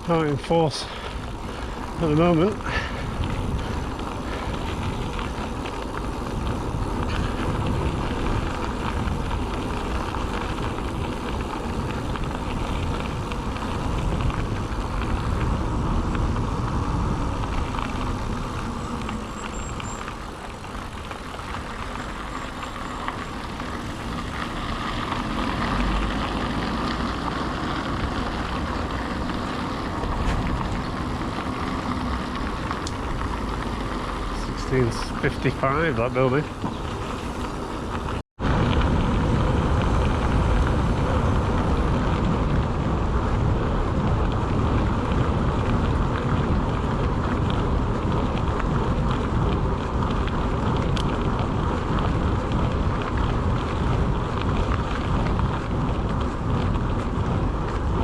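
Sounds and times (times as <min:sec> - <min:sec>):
bike rattling: 0:00.0 - 0:58.0
bike tyres rolling over ground: 0:00.0 - 0:58.0
wind on microphone: 0:00.8 - 0:58.0.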